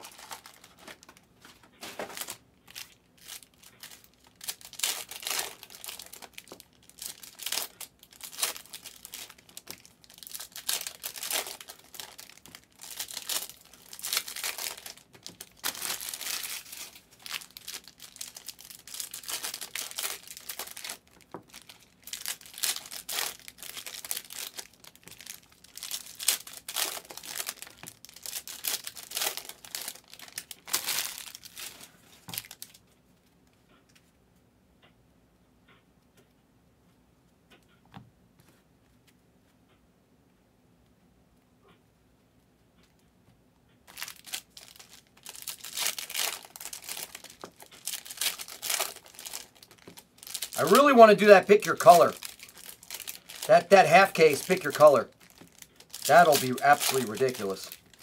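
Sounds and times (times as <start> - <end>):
plastic and foil wrapping crinkling: 0.0 - 32.8, 43.9 - 58.0.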